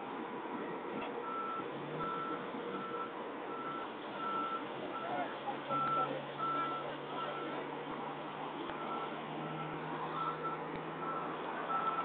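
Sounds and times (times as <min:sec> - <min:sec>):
low engine hum: 0:00.0 - 0:12.0
truck reversing alarm beeping: 0:01.2 - 0:07.6, 0:08.7 - 0:12.0.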